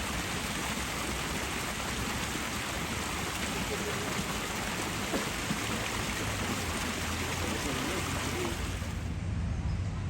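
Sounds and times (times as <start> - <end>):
waterfall roaring: 0.0 - 9.1.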